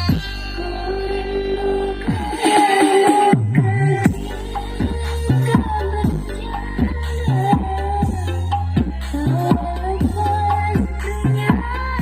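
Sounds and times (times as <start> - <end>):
dance music over sound system: 0.0 - 12.0.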